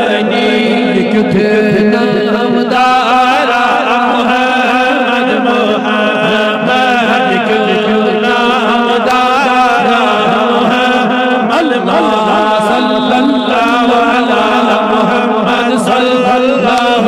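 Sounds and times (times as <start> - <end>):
man chanting: 0.0 - 17.0
steady drone: 0.0 - 17.0.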